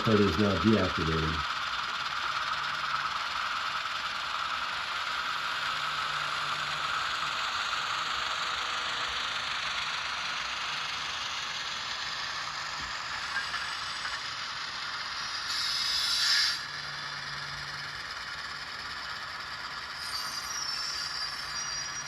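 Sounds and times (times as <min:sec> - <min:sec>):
diesel engine sound from speaker: 0:00.0 - 0:22.0
model motor and gears whirring: 0:00.0 - 0:22.0.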